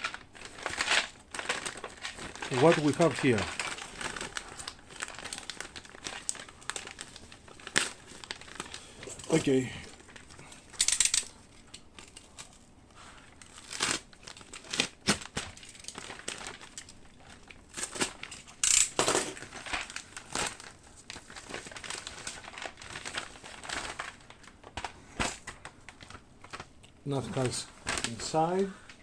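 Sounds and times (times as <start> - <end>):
packaging crinkling: 0.0 - 29.0.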